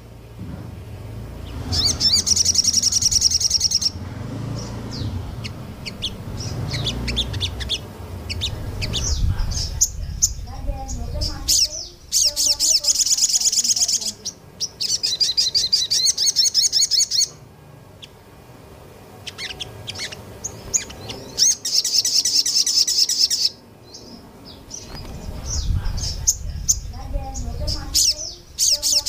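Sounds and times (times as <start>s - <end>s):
songbird trilling: 1.4s - 17.4s, 19.2s - 29.0s.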